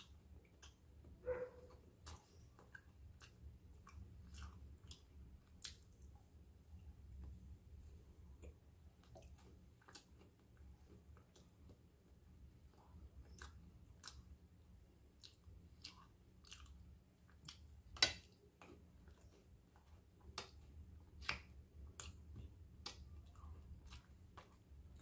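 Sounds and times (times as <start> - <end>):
person chewing crunchy biscuit: 0.0 - 6.2, 7.0 - 25.0.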